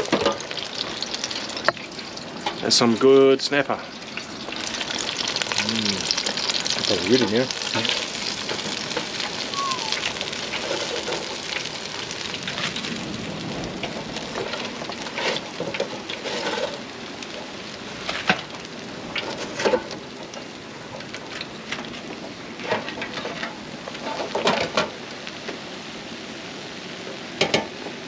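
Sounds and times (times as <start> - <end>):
oil sizzling in deep fryer: 0.0 - 28.0.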